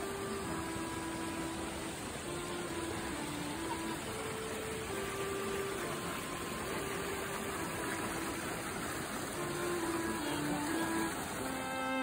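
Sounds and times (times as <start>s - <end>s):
slow string music: 0.0s - 12.0s
water rushing over rocks: 0.0s - 12.0s.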